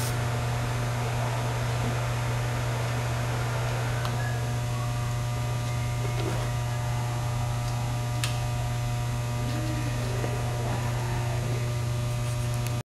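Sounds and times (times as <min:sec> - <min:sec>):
low electrical hum: 0:00.0 - 0:12.8.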